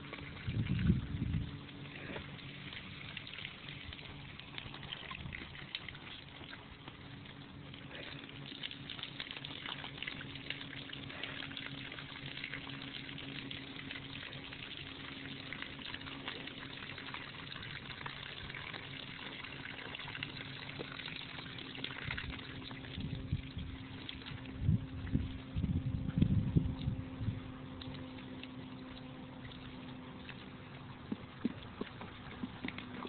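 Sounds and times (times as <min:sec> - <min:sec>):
low hum: 0:00.0 - 0:33.0
water spraying from hose: 0:00.0 - 0:33.0.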